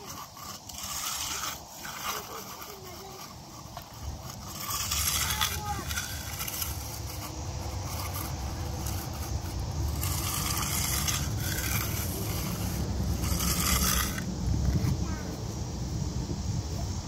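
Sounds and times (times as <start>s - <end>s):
trowel scraping wet concrete: 0.0s - 15.0s.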